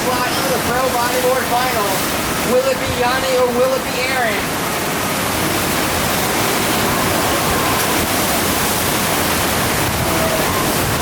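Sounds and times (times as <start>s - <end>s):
pumped water rushing loudly: 0.0s - 11.0s.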